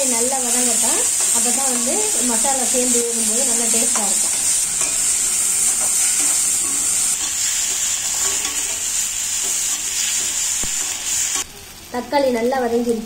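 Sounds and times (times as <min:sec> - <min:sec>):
vegetables sizzling in oil: 0:00.0 - 0:13.0
spatula scraping pan: 0:00.5 - 0:11.4.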